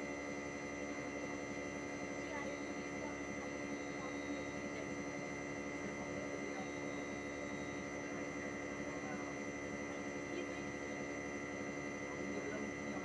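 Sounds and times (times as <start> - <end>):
air conditioner outdoor unit humming: 0.0 - 13.0.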